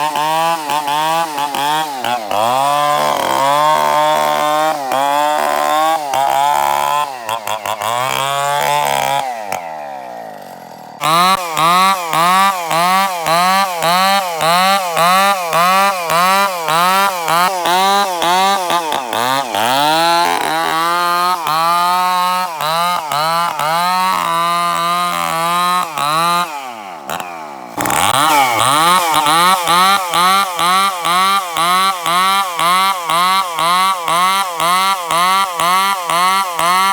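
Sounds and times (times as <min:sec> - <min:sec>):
chainsaw cutting timber: 0:00.0 - 0:36.9.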